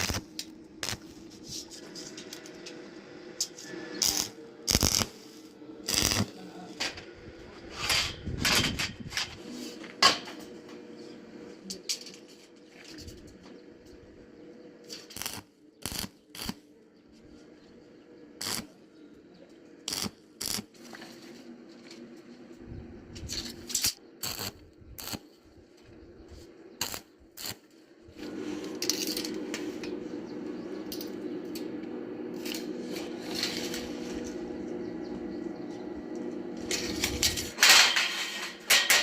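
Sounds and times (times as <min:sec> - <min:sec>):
machine hum with hiss: 0:00.0 - 0:12.1, 0:18.2 - 0:18.8, 0:19.8 - 0:39.0.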